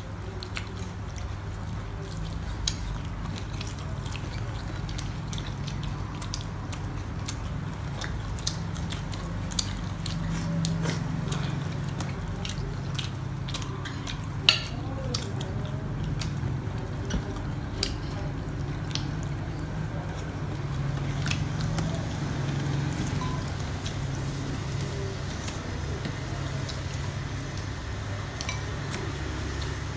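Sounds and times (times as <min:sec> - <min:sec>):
chewing and mouth sounds: 0:00.0 - 0:29.9
steady low hum: 0:00.0 - 0:29.9.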